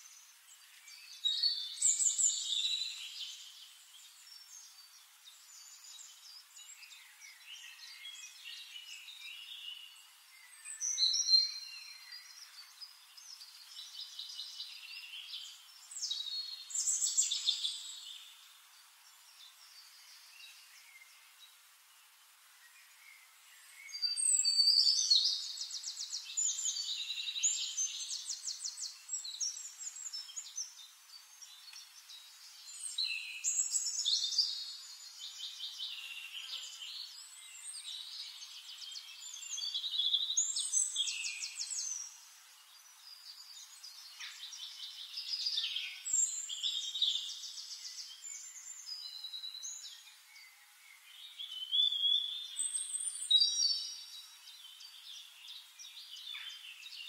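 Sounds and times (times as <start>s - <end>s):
songbirds trilling and chirping: 0.0s - 57.0s.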